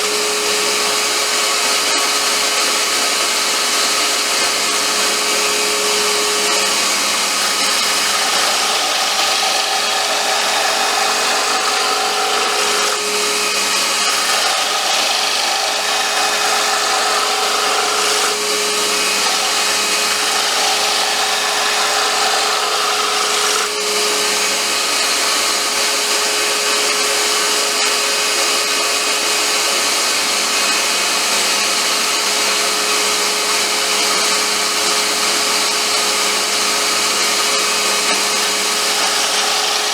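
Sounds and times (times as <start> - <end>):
tool scraping wood: 0.0 - 28.6, 33.9 - 39.9
lathe motor hum: 0.0 - 39.9.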